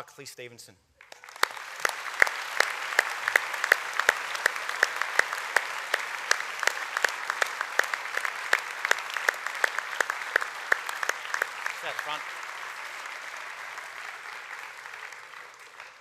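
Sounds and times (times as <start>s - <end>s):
audience applauding: 1.0s - 16.0s
sharp individual hand claps: 1.0s - 16.0s.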